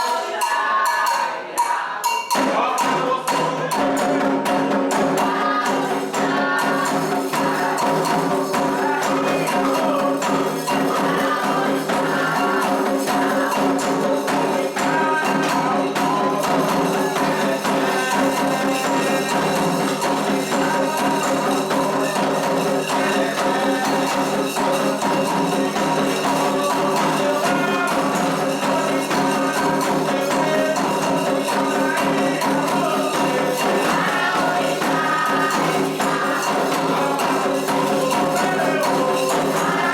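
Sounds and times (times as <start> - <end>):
people singing: 0.0 - 39.9
percussion with jingling metal: 0.0 - 39.9.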